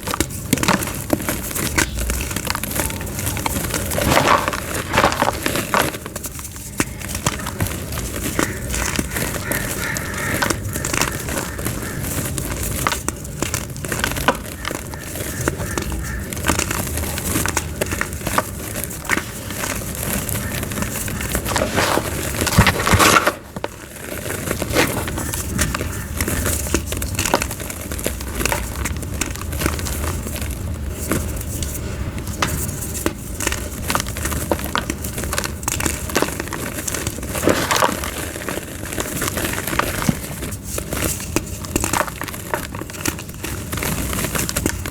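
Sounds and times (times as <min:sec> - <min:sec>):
chalk crushing and crumbling: 0:00.0 - 0:44.9.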